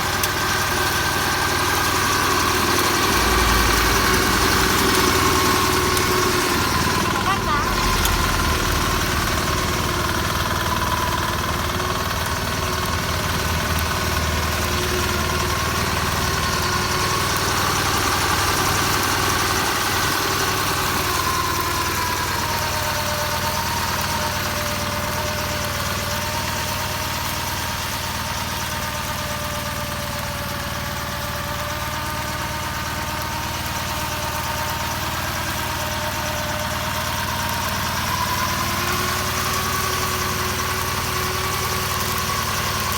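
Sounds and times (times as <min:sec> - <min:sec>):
mower diesel engine running: 0:00.0 - 0:42.9.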